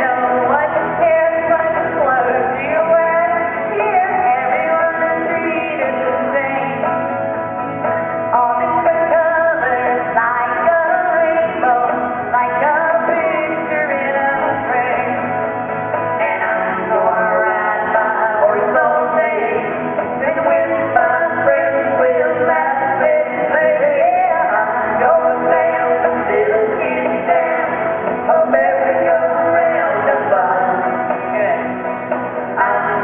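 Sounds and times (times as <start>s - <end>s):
electric guitar: 0.0s - 33.0s.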